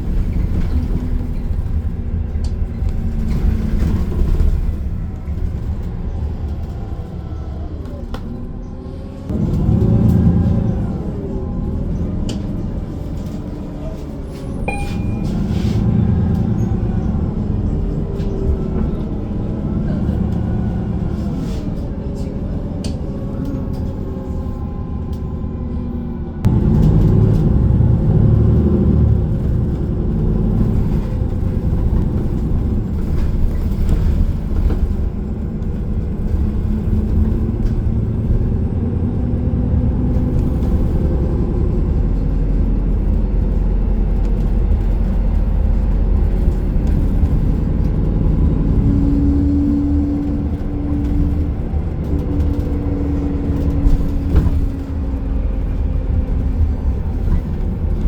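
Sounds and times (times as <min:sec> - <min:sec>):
bus engine and tyre rumble: 0:00.0 - 0:58.0.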